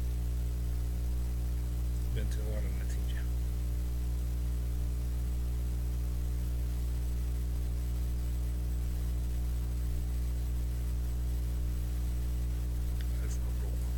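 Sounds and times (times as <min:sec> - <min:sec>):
electrical mains hum: 0:00.0 - 0:13.9.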